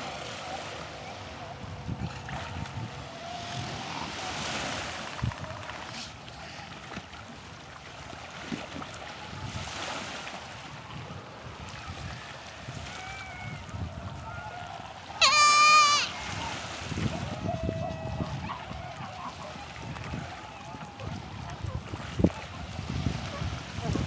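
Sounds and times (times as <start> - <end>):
wind rumbling on microphone: 0.0 - 7.1, 8.0 - 24.0
water splashing in shallows: 0.0 - 24.0.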